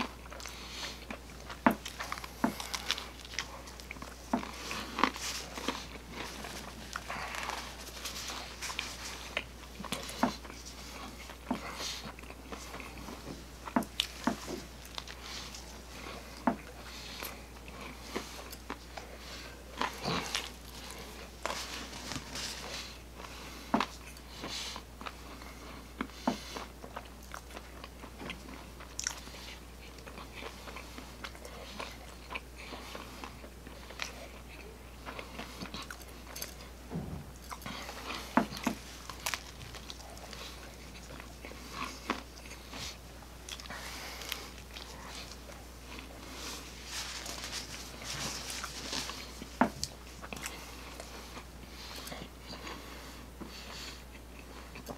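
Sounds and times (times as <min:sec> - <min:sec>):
chewing pizza crust: 0:00.0 - 0:54.9
faint low hum: 0:00.0 - 0:54.9.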